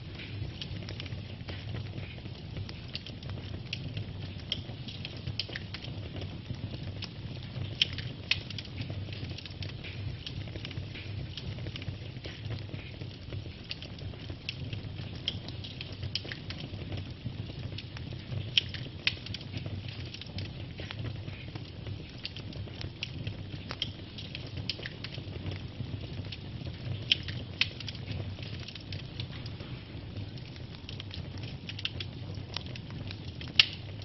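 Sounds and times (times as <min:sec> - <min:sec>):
fire popping: 0:00.0 - 0:34.0
logs burning and crackling: 0:00.0 - 0:34.0
low rumble of flame: 0:00.0 - 0:34.0.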